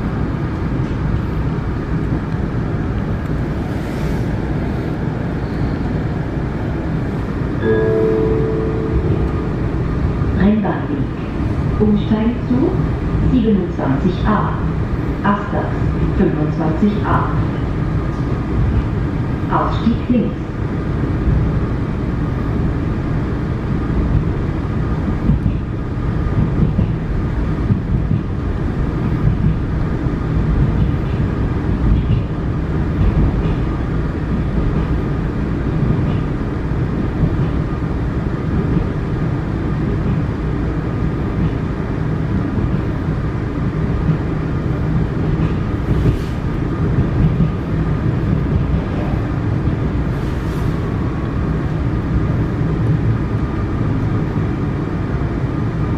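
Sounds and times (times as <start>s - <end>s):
metro train wheels rumbling: 0.0s - 55.9s.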